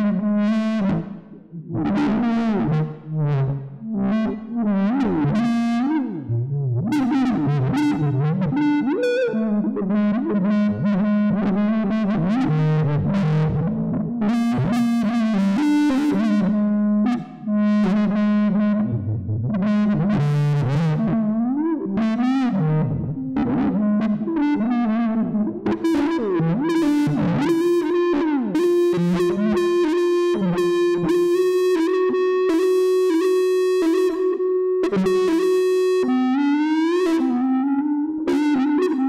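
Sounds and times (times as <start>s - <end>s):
distorted electric guitar: 0.0s - 39.0s.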